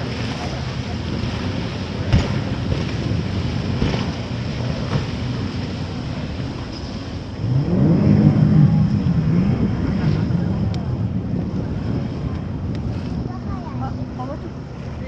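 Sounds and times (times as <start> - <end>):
boat engines rumbling: 0.0 - 15.0
water: 0.0 - 15.0
wind buffeting microphone: 0.0 - 15.0.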